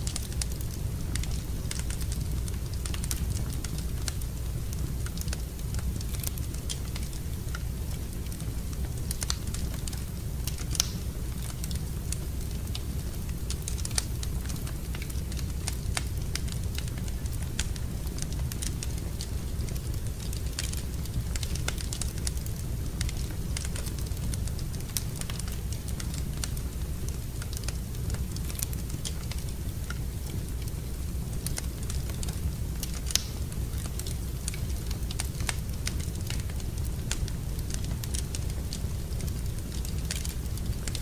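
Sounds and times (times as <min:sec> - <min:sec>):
low fire rumble: 0:00.0 - 0:41.0
wood fire crackling and popping: 0:00.0 - 0:41.0.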